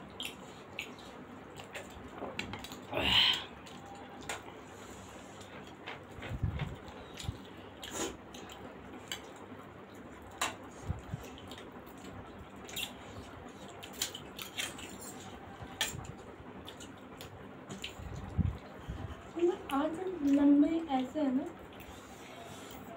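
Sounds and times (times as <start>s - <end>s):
chewing food: 0.0s - 22.9s.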